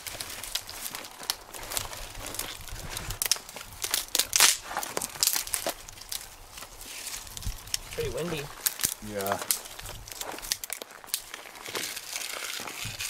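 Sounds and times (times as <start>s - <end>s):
birch bark crinkling and rustling: 0.0s - 13.0s.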